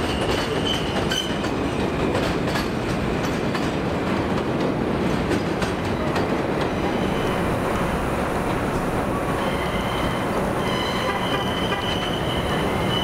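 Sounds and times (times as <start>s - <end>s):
train rail rumble: 0.0s - 13.0s
wheels clacking over rail joints: 0.0s - 13.0s.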